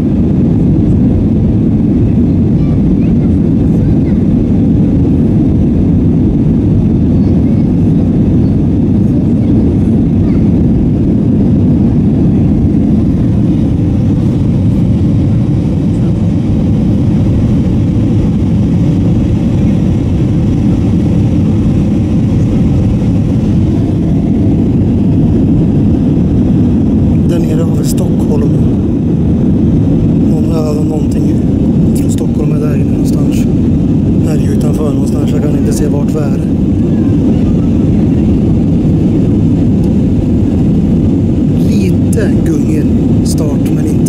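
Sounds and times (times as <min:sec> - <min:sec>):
air rushing along fuselage: 0:00.0 - 0:44.0
jet engines rumbling: 0:00.0 - 0:44.0.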